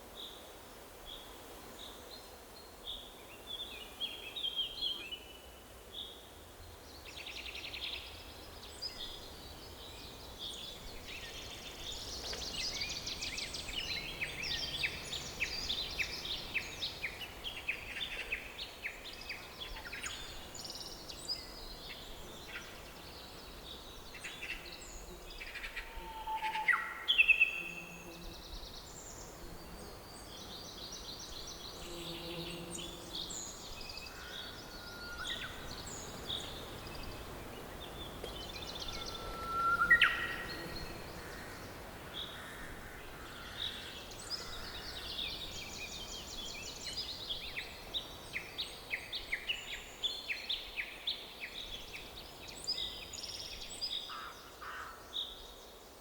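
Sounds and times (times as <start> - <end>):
faint forest hiss: 0.0 - 56.0.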